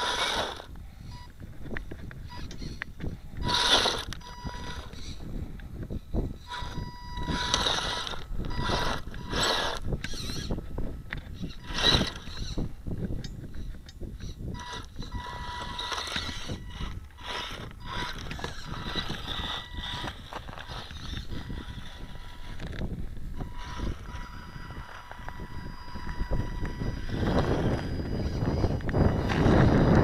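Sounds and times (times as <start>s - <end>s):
electric motor whining: 0.0s - 30.0s.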